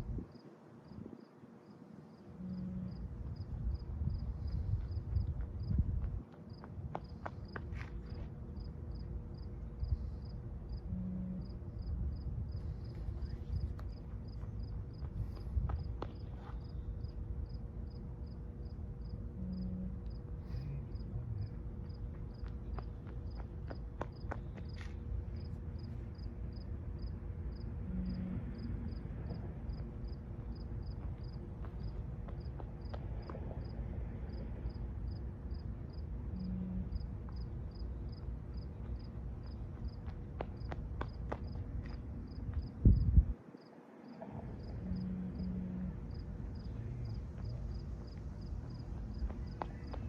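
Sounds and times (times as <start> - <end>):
cricket chirping: 0.2 - 5.8, 6.5 - 15.1, 15.7 - 50.0
low rumbling noise: 2.2 - 43.4, 44.1 - 50.0.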